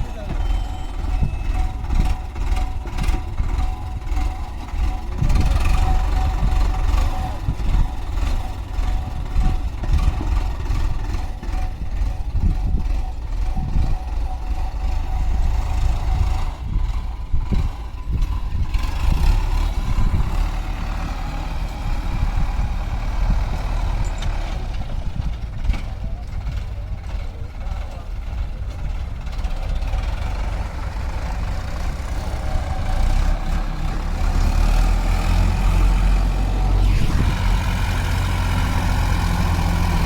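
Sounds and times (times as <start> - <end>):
heavy diesel engine rumbling: 0.0 - 40.0.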